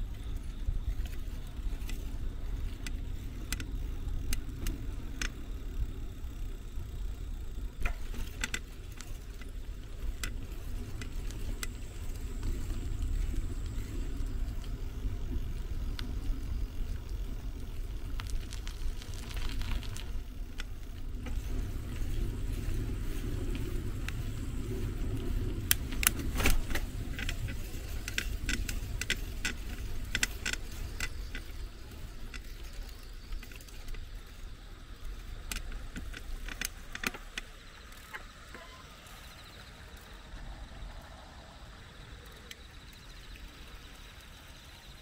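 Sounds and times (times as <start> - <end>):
bicycle clicks and rattles: 0.0 - 40.4
bicycle tyres on road: 0.0 - 45.0.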